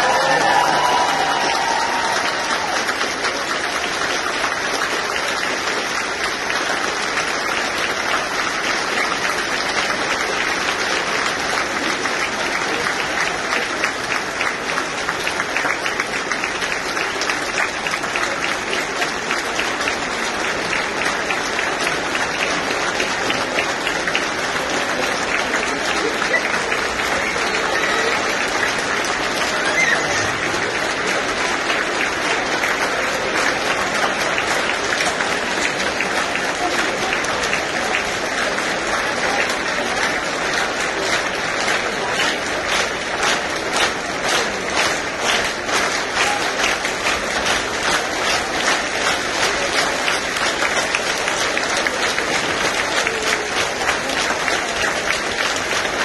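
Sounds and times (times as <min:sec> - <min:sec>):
stadium crowd applauding: 0:00.0 - 0:56.0.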